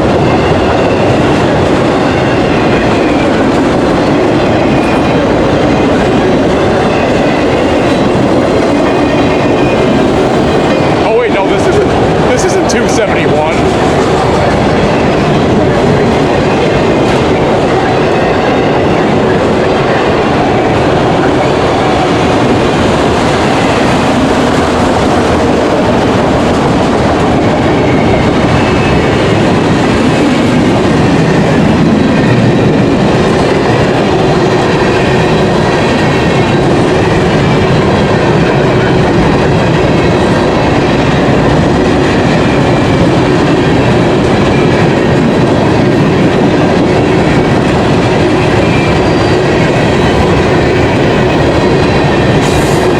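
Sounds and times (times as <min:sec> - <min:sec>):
steel wheels rumbling on rail: 0:00.0 - 0:52.9.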